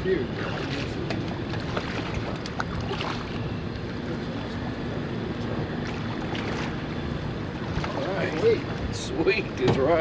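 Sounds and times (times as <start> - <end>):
boat and water ambience: 0.0 - 10.0.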